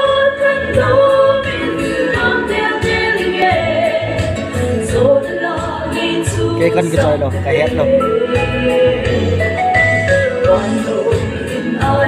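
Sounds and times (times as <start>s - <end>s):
two women singing gospel: 0.0s - 7.1s, 7.8s - 12.0s.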